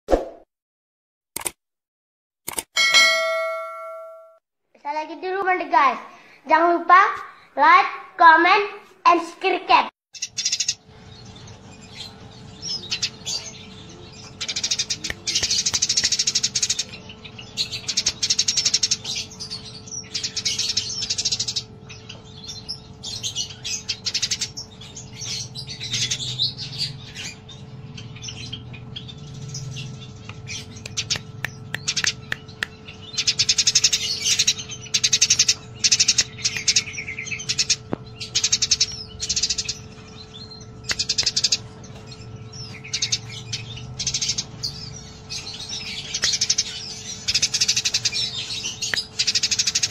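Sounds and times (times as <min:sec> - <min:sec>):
sparrows chirping: 0:08.8 - 0:49.9.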